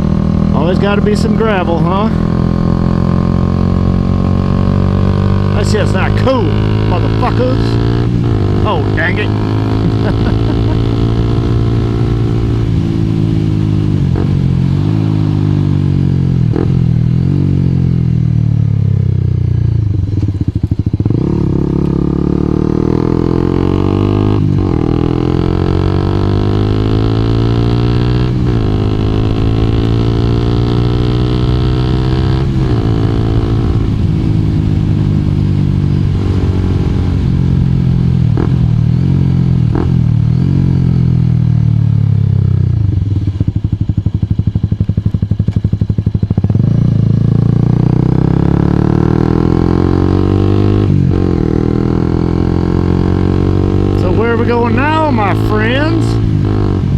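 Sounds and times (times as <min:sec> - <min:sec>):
motorcycle engine shifting gears: 0:00.0 - 0:56.9.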